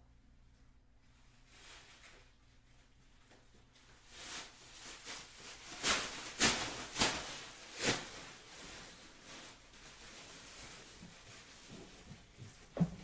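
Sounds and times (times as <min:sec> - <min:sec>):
packaging rustling and crinkling: 0:01.5 - 0:13.0.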